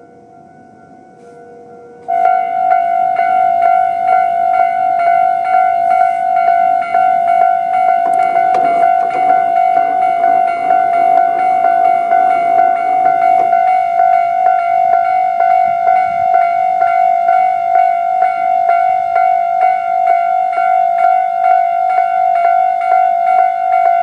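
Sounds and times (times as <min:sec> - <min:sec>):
level crossing warning bell: 0:00.0 - 0:24.0.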